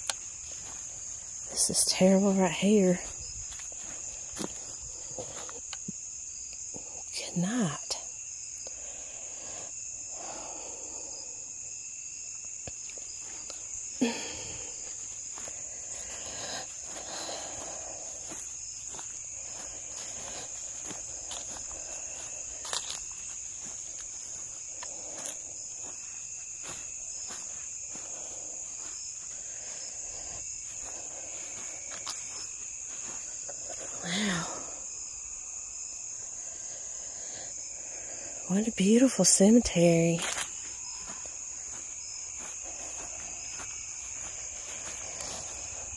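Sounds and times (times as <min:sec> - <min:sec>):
footsteps on grass: 0:00.0 - 0:06.1, 0:09.3 - 0:36.1, 0:39.0 - 0:45.9
high-pitched insect chorus: 0:00.0 - 0:45.9.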